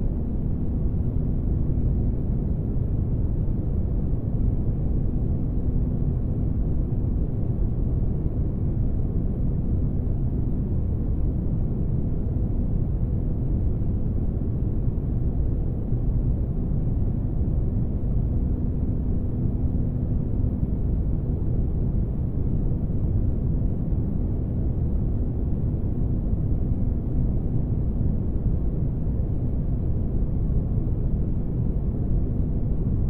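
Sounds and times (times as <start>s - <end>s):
deep rumbling engine room ambience: 0.0s - 33.0s
faint hum: 0.0s - 33.0s.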